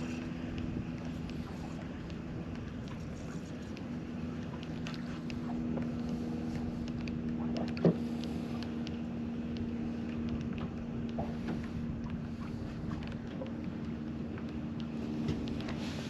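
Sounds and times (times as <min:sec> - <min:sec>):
electric boat motor humming: 0:00.0 - 0:16.0
light ticks and splashes: 0:00.0 - 0:16.0.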